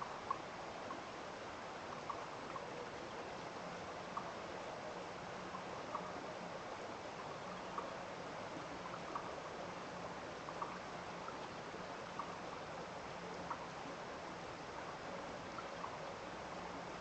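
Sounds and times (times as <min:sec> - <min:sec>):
small stream running: 0:00.0 - 0:17.0.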